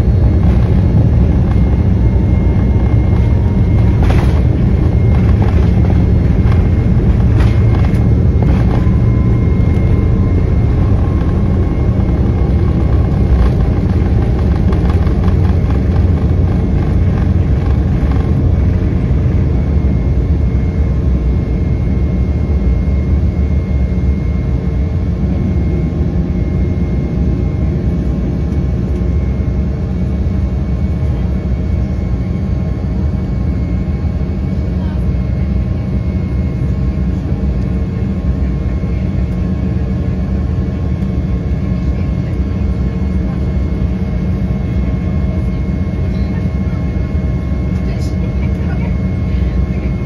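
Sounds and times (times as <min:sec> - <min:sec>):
faint steady whine: 0:00.0 - 0:50.0
jet engine cabin rumble: 0:00.0 - 0:50.0.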